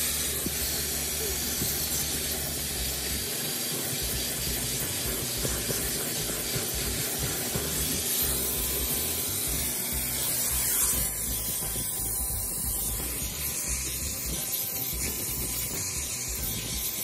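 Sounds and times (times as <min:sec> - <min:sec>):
nozzle sucking over carpet: 0:00.0 - 0:17.0
shop vacuum running: 0:00.0 - 0:17.0.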